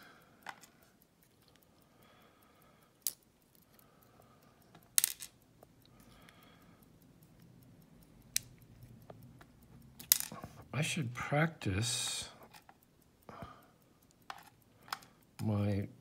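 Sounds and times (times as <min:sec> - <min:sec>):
small metal clicks and taps: 0:00.0 - 0:10.7, 0:12.2 - 0:15.9.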